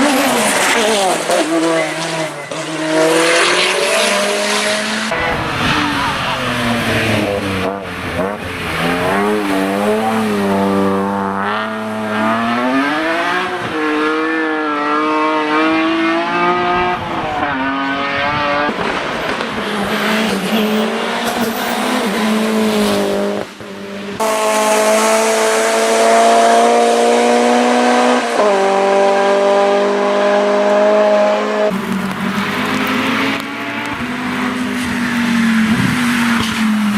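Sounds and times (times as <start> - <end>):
race car engines accelerating: 0.0 - 36.9.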